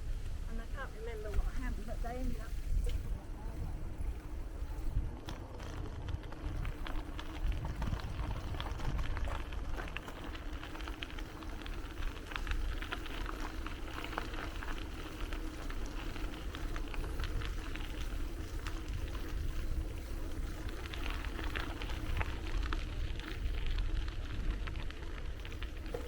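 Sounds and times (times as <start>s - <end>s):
bicycle tyres crackling: 0.0s - 26.0s
low rumble: 0.0s - 26.0s.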